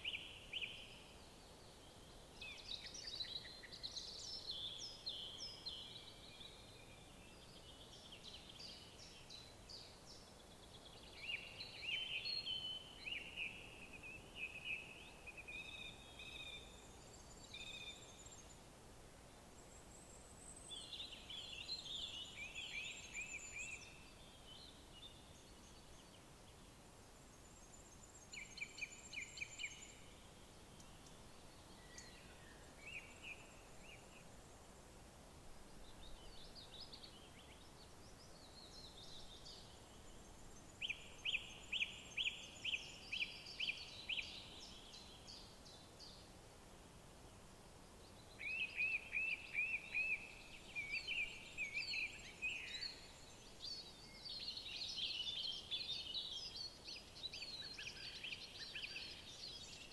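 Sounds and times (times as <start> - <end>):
songbirds singing: 0.0 - 35.0, 35.6 - 46.4, 47.3 - 59.9
soft steady hiss: 0.0 - 59.9.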